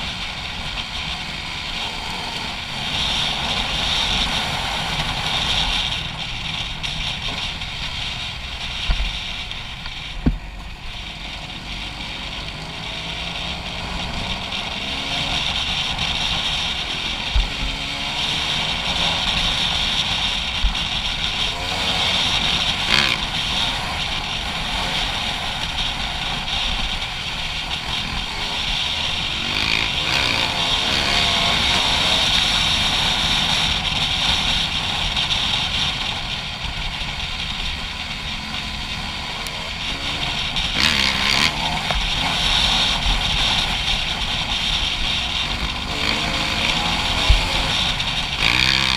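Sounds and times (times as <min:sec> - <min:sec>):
dirt bike engine revving: 0:00.0 - 0:09.4, 0:11.0 - 0:48.9
wind rushing over microphone: 0:00.0 - 0:48.9.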